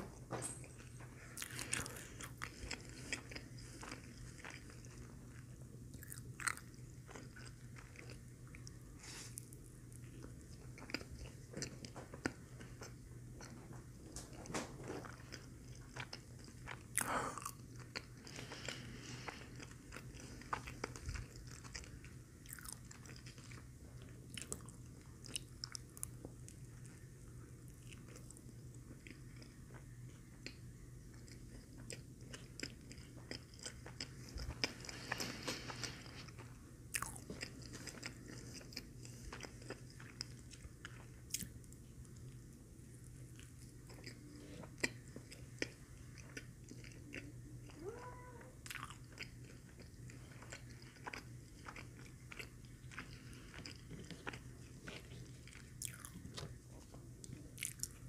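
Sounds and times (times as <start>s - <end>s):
steady low hum: 0.0s - 58.0s
person chewing: 0.7s - 13.6s, 15.0s - 27.1s, 27.7s - 42.4s, 43.2s - 47.8s, 48.6s - 58.0s.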